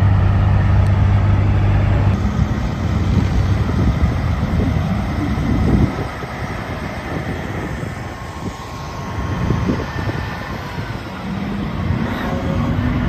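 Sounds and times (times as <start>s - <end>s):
heavy vehicle engine rumbling: 0.0s - 13.0s.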